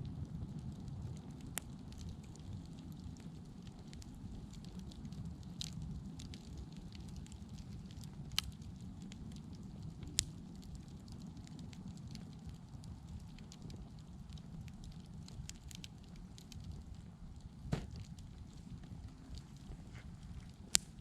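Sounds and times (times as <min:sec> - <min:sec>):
fire crackles and pops: 0:00.0 - 0:21.0
wood fire rumbling: 0:00.0 - 0:21.0.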